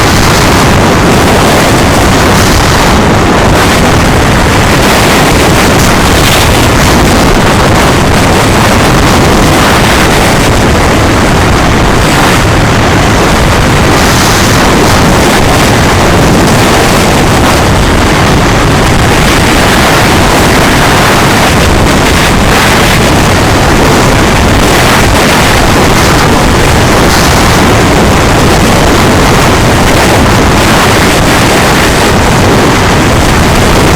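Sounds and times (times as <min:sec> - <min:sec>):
moving vehicle noise: 0:00.0 - 0:33.9
wind buffeting microphone: 0:00.0 - 0:33.9.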